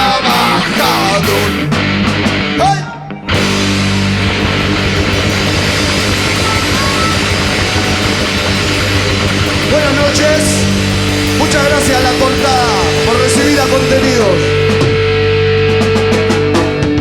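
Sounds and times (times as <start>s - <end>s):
lead guitar with bending notes: 0.0s - 17.0s
rock band playing: 0.0s - 17.0s.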